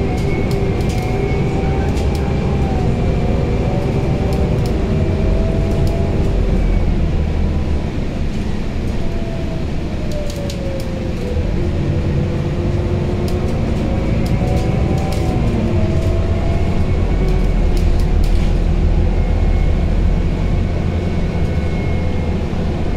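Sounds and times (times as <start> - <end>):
bus engine low rumble: 0.0 - 22.9.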